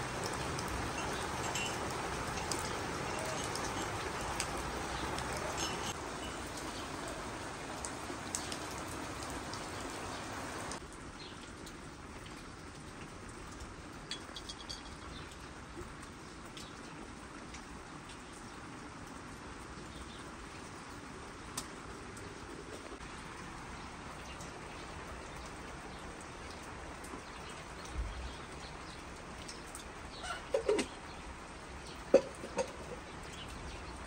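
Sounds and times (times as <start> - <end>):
rain on wet pavement: 0.0 - 34.0
raindrops ticking on surfaces: 0.0 - 34.0.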